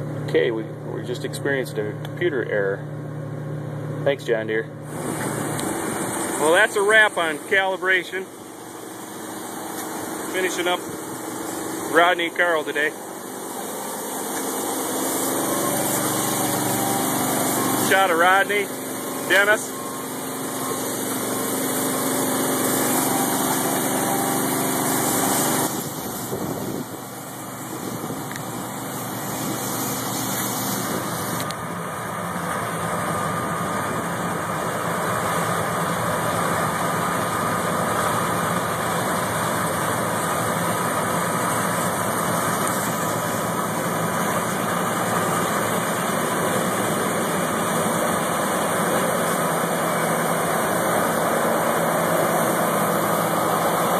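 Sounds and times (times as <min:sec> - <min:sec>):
harvest machinery engine hum: 0:00.0 - 0:53.9.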